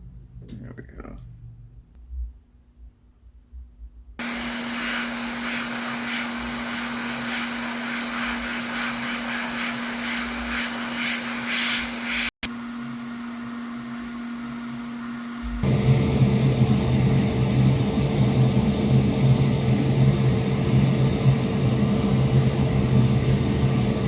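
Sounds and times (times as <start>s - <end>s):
electric fan motor running: 4.2s - 24.0s.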